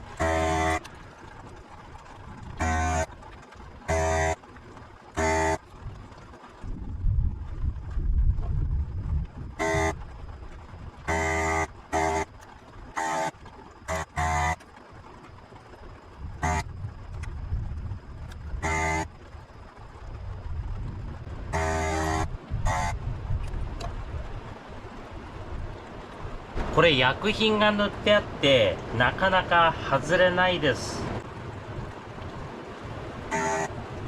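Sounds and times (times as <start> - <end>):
vacuum pump buzzing: 0.0 - 34.0.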